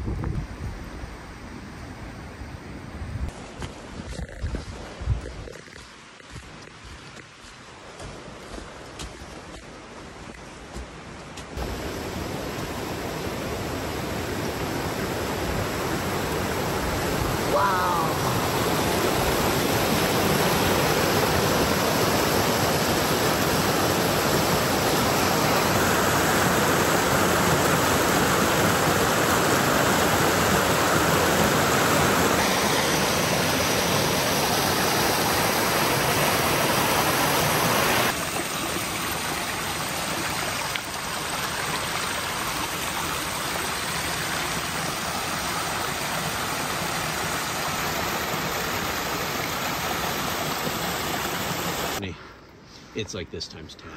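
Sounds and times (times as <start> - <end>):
creek rushing over rocks: 3.4 - 52.0.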